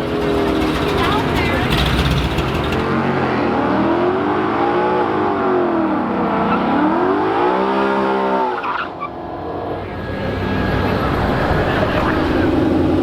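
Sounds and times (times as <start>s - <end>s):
car engine revving: 0.0s - 8.6s, 9.8s - 13.0s.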